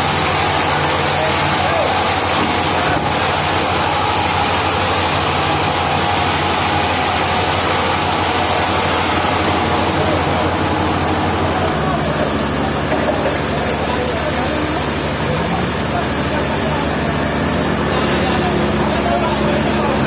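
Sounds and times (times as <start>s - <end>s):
engine-driven saw running: 0.0s - 20.0s.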